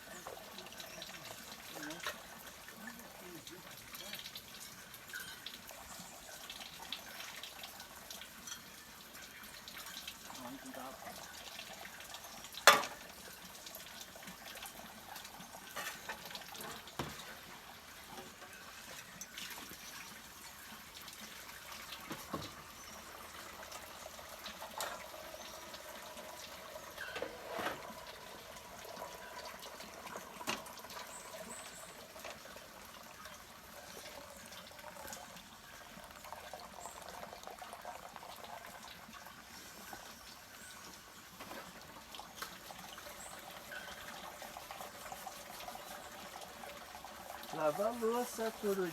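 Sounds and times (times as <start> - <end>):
water trickling and splashing: 0.0 - 48.9.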